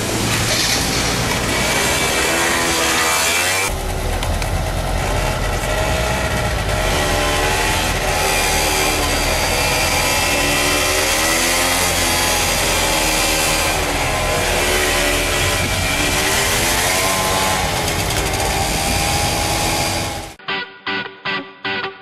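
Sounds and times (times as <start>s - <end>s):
motor scooter engine running: 1.4s - 20.4s.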